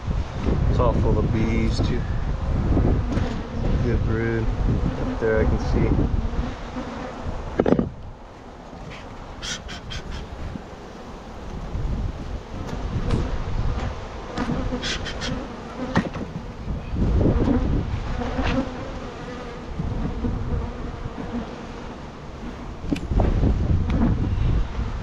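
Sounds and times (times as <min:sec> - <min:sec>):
bees buzzing: 0:02.3 - 0:25.0.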